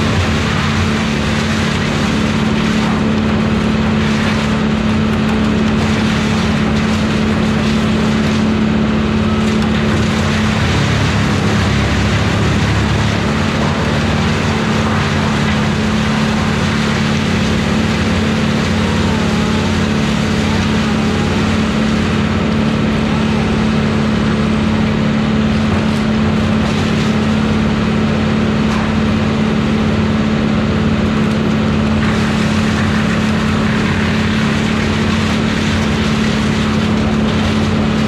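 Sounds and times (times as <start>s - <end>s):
wood chipper engine droning: 0.0s - 38.0s.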